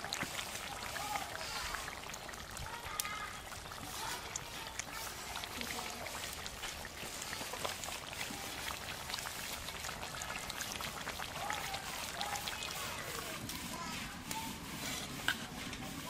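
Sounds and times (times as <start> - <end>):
curry bubbling and popping: 0.0 - 16.0.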